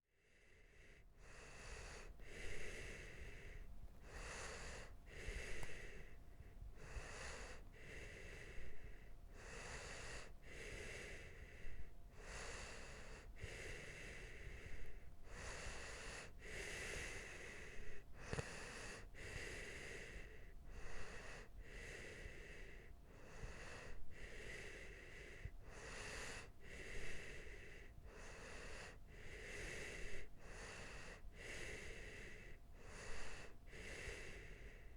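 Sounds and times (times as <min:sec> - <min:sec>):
sleeping person breathing: 0:00.2 - 0:34.9.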